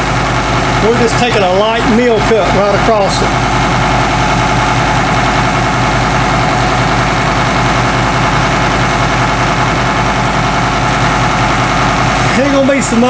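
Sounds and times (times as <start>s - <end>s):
milling machine drone: 0.0s - 13.0s.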